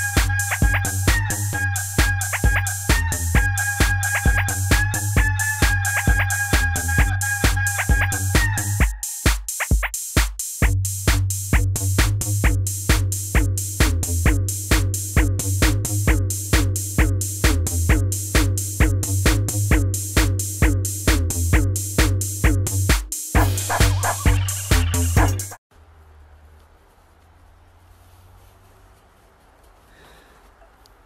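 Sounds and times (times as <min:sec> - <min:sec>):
electronic music with drum-machine beat: 0:00.0 - 0:25.6.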